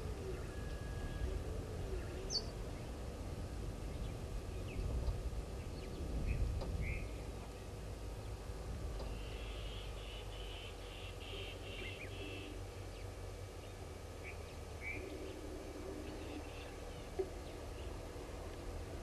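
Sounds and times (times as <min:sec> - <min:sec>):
birds chattering and chirping: 0:00.0 - 0:19.0
low background rumble: 0:00.0 - 0:19.0.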